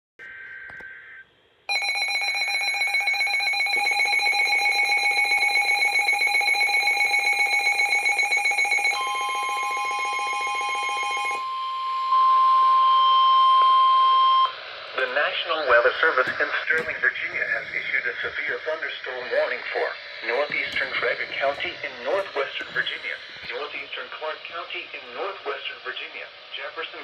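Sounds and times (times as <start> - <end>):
long steady warning alert tone: 0.2 - 26.2
fast-pulsing beeping alarm: 0.3 - 25.9.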